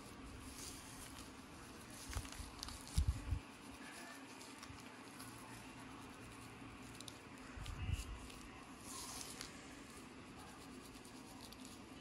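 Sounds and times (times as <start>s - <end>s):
scratching through hair: 0.0s - 12.0s.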